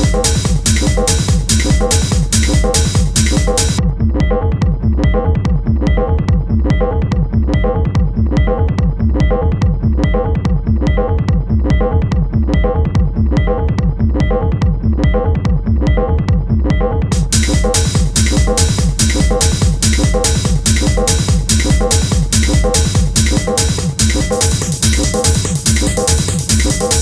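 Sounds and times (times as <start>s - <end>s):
techno music: 0.0s - 27.0s.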